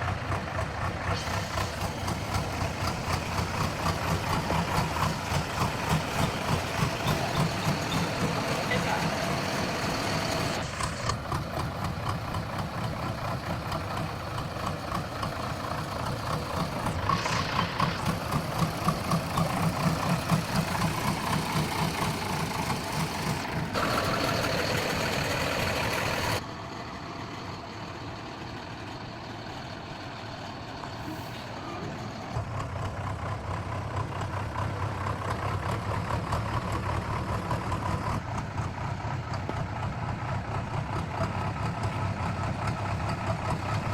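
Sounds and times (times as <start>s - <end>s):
heavy diesel engines revving: 0.0s - 43.9s.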